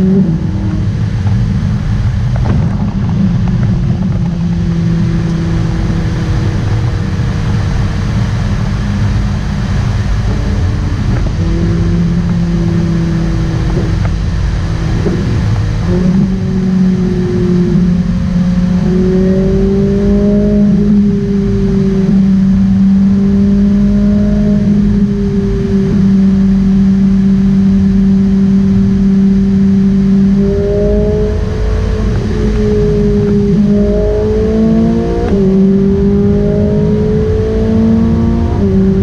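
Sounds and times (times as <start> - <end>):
car engine cruising: 0.0 - 39.0
road noise: 0.0 - 39.0.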